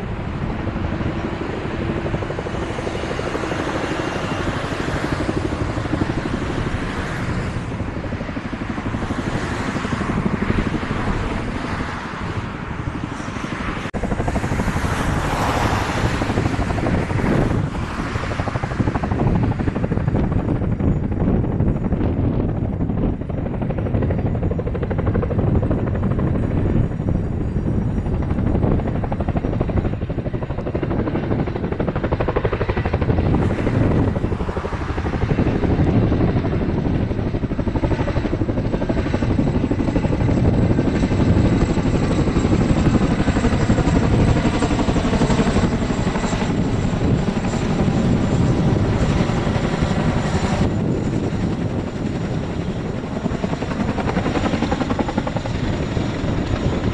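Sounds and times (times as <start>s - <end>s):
helicopter rotors beating overhead: 0.0s - 56.9s.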